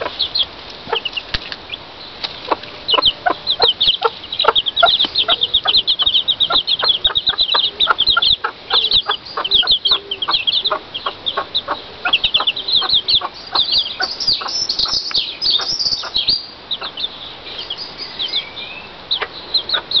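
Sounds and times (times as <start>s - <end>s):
hen clucking: 0.0s - 17.8s, 19.0s - 20.0s
chicks peeping: 0.0s - 20.0s.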